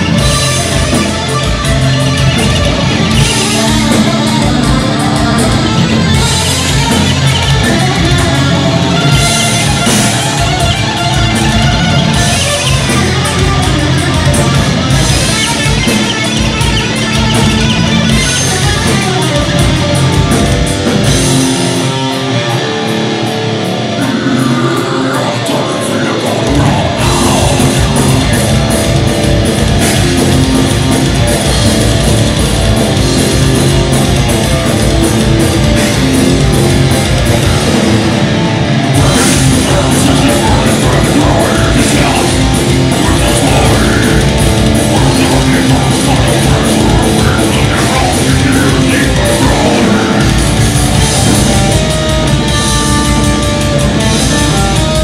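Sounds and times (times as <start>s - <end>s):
bass guitar: 0.0s - 55.0s
distorted electric guitars: 0.0s - 55.0s
drum kit: 0.0s - 55.0s.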